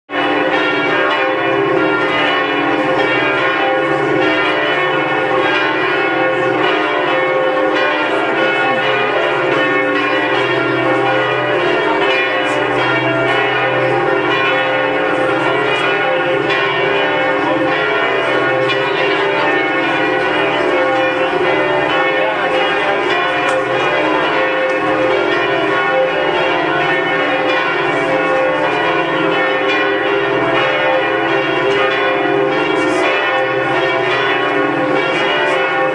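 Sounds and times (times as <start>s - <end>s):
church bells pealing: 0.1s - 35.9s.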